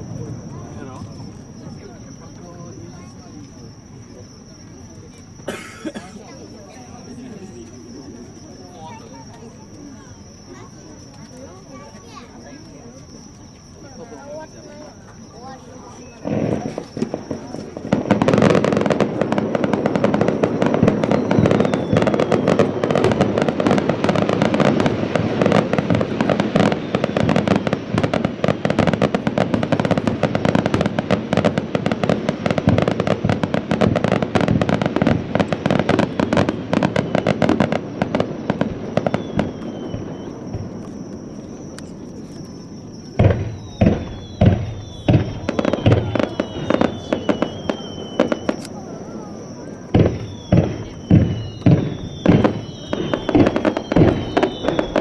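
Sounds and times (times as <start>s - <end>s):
fireworks crackling: 0.0s - 55.0s
heavy firework booms: 0.0s - 55.0s.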